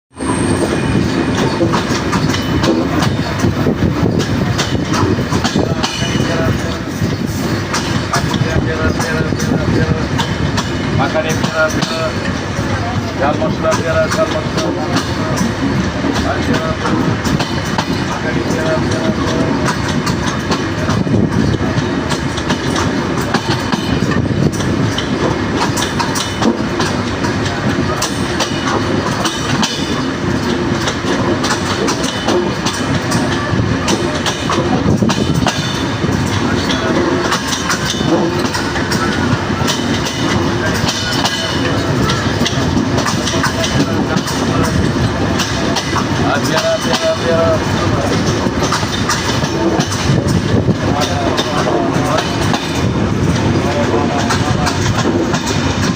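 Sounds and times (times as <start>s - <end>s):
train rumbling on track: 0.0s - 55.9s
wheels clacking over rail joints: 0.1s - 55.9s.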